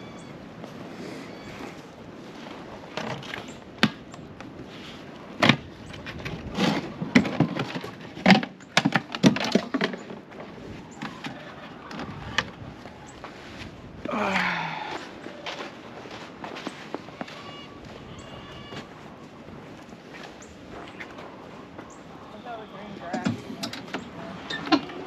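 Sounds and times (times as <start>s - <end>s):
faint steady background noise: 0.0s - 25.0s.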